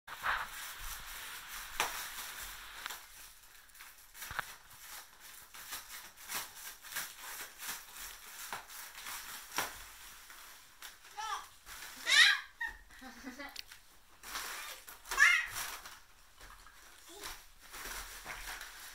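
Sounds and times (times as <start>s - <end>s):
foil balloon crinkling: 0.1s - 18.9s.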